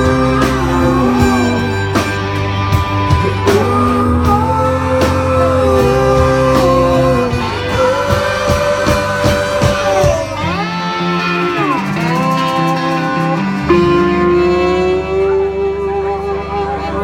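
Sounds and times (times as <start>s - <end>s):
bass guitar: 0.0s - 17.0s
electric guitar bending notes: 0.0s - 17.0s.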